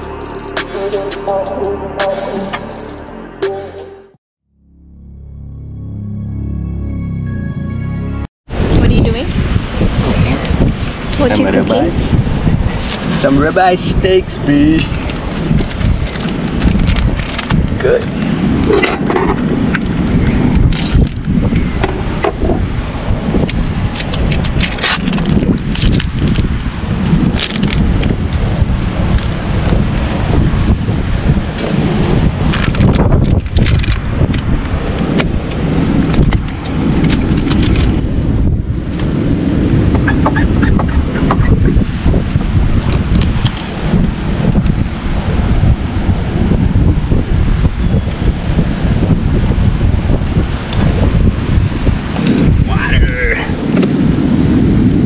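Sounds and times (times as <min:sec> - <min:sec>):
wind buffeting microphone: 0:08.5 - 0:55.0.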